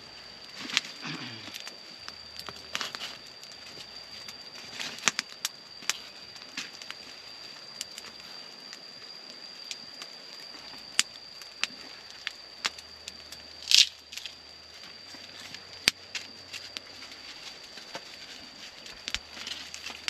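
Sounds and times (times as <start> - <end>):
embers crackling and popping: 0.0 - 20.0.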